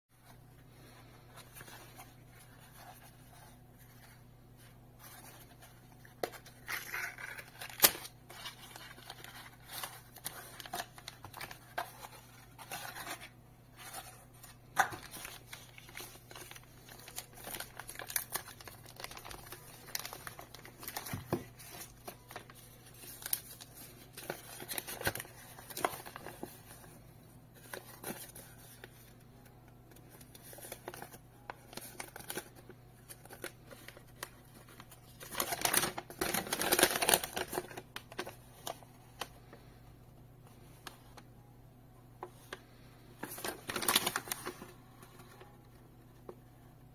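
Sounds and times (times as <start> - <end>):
paper crinkling: 0.2 - 27.0, 27.6 - 39.7, 42.2 - 45.7.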